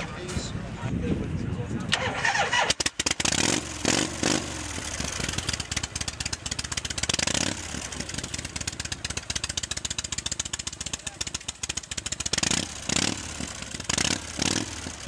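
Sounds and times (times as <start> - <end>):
motorcycle engine revving and idling: 1.9 - 15.0.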